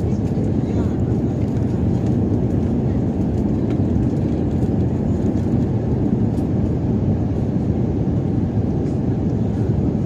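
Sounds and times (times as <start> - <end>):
airliner cabin engine drone: 0.0 - 10.0.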